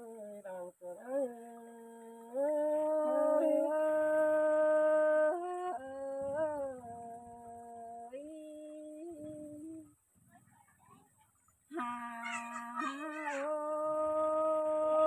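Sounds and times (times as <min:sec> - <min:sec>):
person singing folk song: 0:00.0 - 0:10.0, 0:11.7 - 0:15.0.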